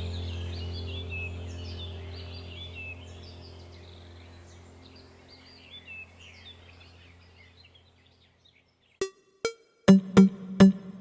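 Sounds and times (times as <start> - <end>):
low steady hum: 0.0 - 8.8
small birds chirping: 0.0 - 11.0.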